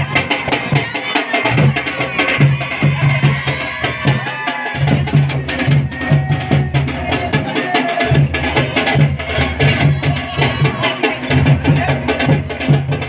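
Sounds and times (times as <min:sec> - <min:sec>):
many voices singing: 0:00.0 - 0:13.0
quick steady drum beat: 0:00.0 - 0:13.0.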